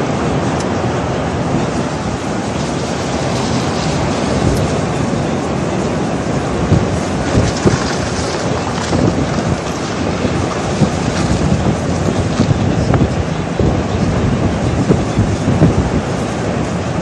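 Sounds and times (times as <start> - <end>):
storm wind buffeting microphone: 0.0 - 17.0.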